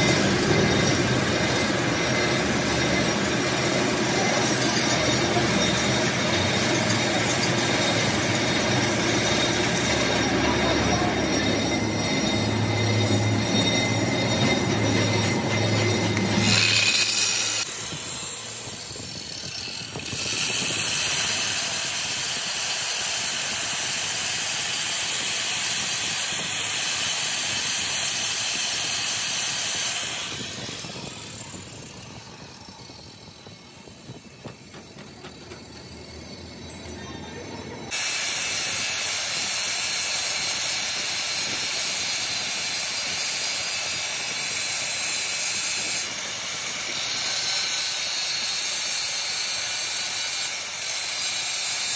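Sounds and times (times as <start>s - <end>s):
angle grinder grinding steel: 0.0s - 51.9s.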